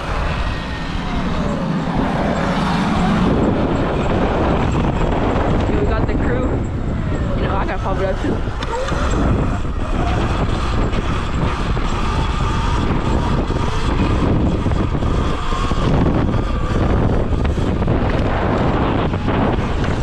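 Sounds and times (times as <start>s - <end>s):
electric motor whine: 0.0s - 20.0s
wind rushing over microphone: 0.0s - 20.0s.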